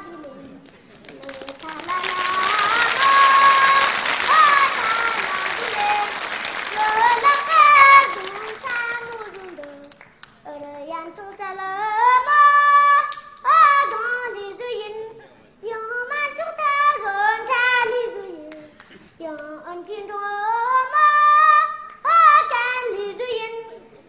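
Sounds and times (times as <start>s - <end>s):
child singing: 0.0s - 23.9s.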